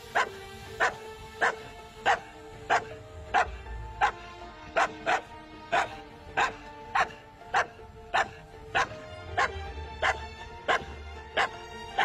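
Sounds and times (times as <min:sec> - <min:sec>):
background music with bass: 0:00.0 - 0:12.0
dog barking: 0:00.0 - 0:12.0.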